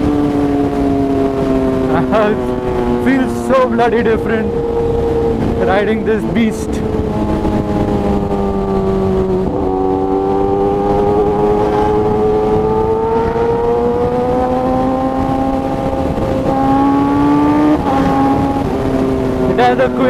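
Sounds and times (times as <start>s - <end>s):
motorcycle engine revving: 0.0s - 20.0s
wind rumble on microphone: 0.0s - 20.0s.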